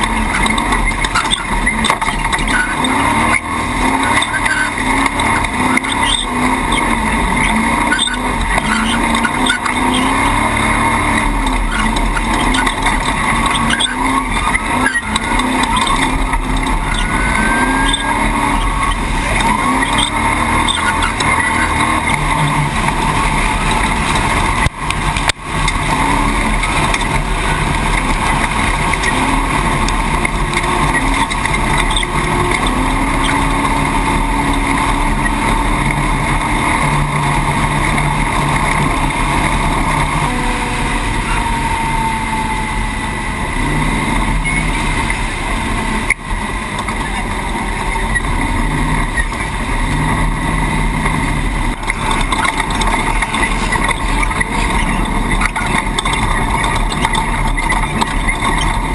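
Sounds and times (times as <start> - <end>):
engine revving: 0.0 - 58.9
loud driving noise: 0.0 - 58.9.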